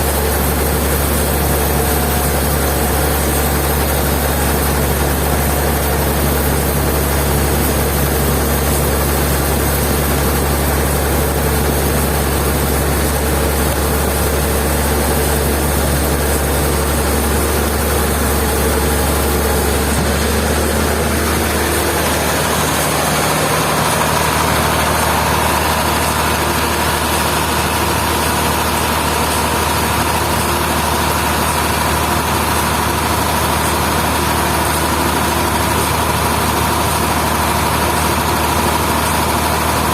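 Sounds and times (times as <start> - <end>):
heavy engine running: 0.0 - 39.9
steady high whine: 0.0 - 39.9.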